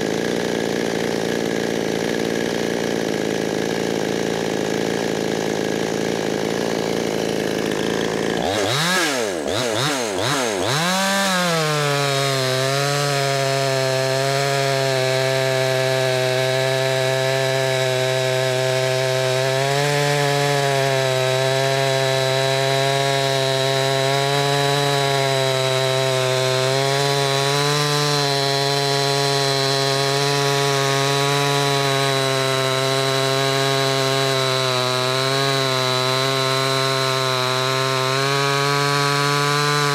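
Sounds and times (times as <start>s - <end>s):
chainsaw revving and cutting log: 0.0s - 39.9s.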